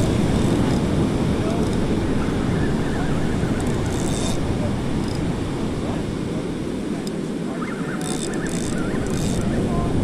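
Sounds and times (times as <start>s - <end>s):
breaking surf: 0.0s - 10.0s
wind rumble on microphone: 0.0s - 10.0s.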